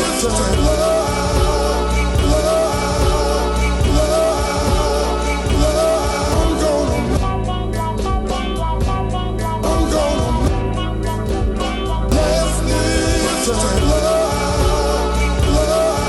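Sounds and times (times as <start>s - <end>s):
produced music with bass line: 0.0s - 16.0s.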